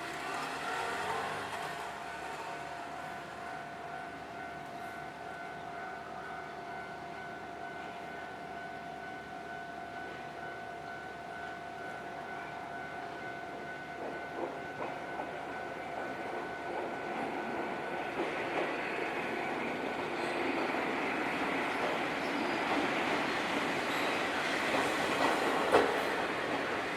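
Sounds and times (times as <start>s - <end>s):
train approaching: 0.0s - 26.9s.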